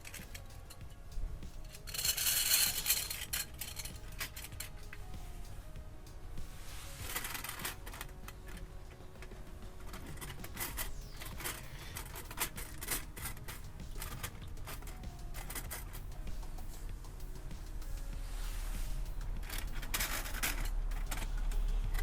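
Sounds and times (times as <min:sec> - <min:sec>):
rustling: 0:00.0 - 0:22.0.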